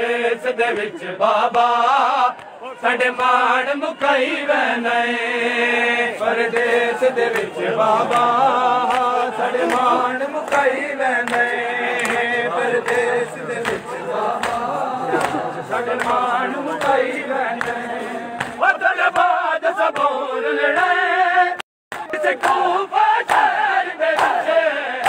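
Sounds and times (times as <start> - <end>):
crowd of men chanting: 0.0 - 25.0
rhythmic chest-beating slaps: 0.0 - 25.0.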